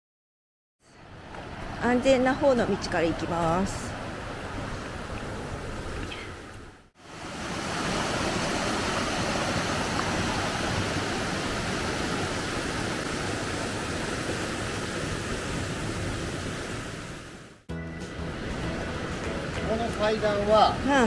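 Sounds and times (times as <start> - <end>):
flowing water rushing: 1.0 - 21.0.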